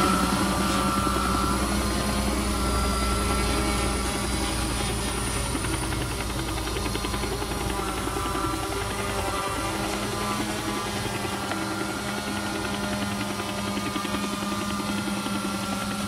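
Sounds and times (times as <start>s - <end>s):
helicopter rotor sound effect: 0.0s - 16.0s
quadcopter motors whining: 0.0s - 16.0s.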